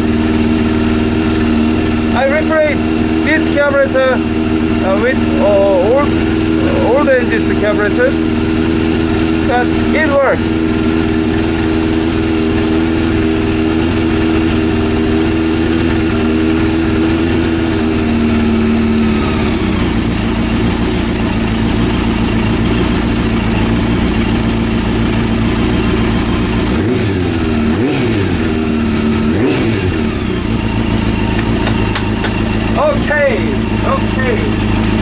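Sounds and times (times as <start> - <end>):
motorcycle engine idling and revving: 0.0 - 35.0.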